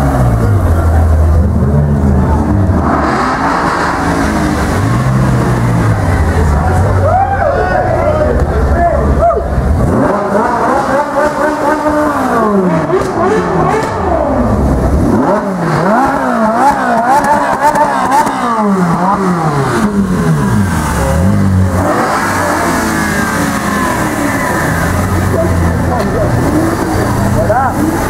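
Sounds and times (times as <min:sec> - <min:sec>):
car engine revving and idling: 0:00.0 - 0:28.0.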